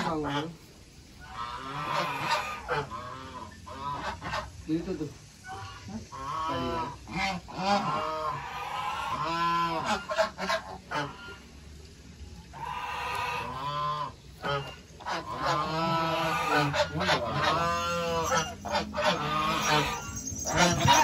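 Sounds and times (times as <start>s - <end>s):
geese honking: 1.2s - 4.6s, 5.4s - 11.5s, 12.5s - 21.0s.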